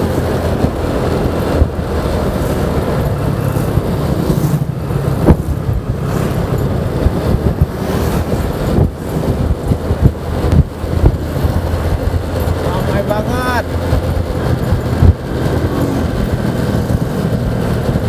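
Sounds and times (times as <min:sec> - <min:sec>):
scooter engine running: 0:00.0 - 0:18.0.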